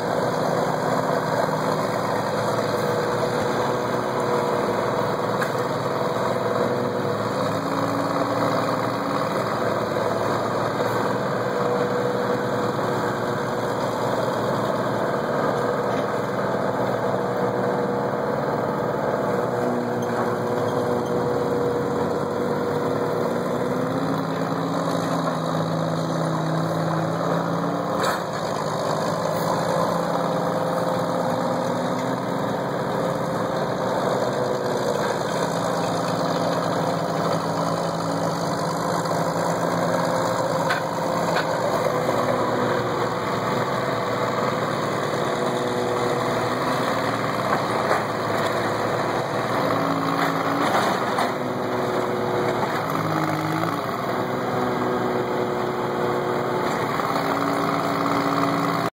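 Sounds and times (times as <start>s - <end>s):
backhoe diesel engine running: 0.0s - 58.9s.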